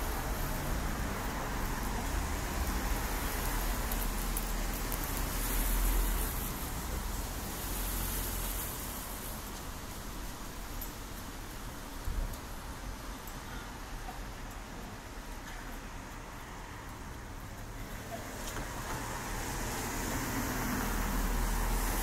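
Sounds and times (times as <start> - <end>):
traffic on a wet road: 0.0 - 22.0.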